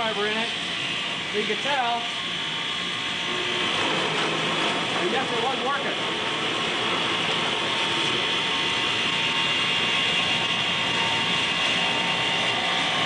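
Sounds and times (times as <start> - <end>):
motor whir with high whine: 0.0 - 13.0.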